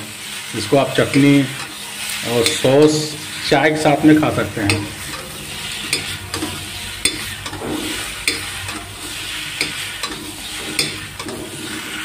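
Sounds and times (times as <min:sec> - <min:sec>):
dumplings sizzling in oil: 0:00.0 - 0:12.0
metal spatula scraping pan: 0:00.0 - 0:12.0.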